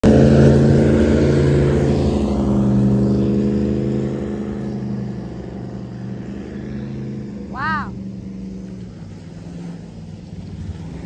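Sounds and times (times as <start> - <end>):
airboat engine and propeller passing: 0.0 - 11.0.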